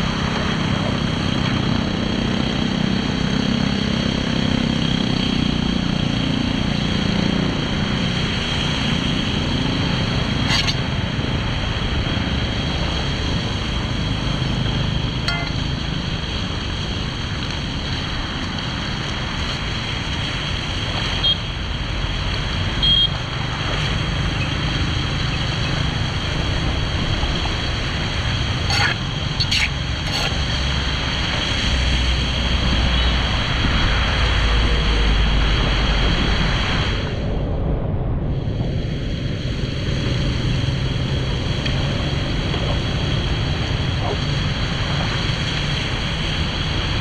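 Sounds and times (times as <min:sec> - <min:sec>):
water rushing with low rumble: 0:00.0 - 0:47.0.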